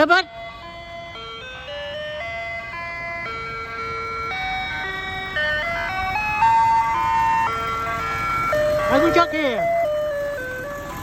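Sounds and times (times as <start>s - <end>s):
ice cream truck jingle: 0.0s - 11.0s.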